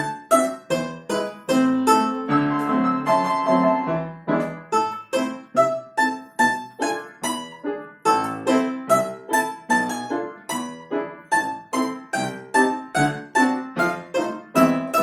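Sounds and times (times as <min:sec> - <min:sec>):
piano accompaniment: 0:00.0 - 0:15.0
plucked string instrument: 0:00.0 - 0:15.0.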